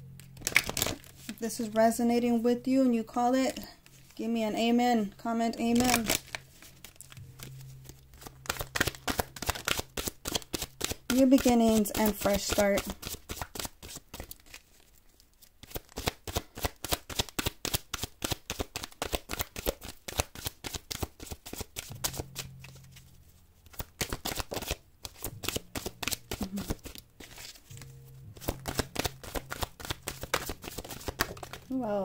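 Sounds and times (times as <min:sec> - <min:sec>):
cards being shuffled: 0:00.2 - 0:01.8, 0:03.5 - 0:04.2, 0:05.6 - 0:31.8.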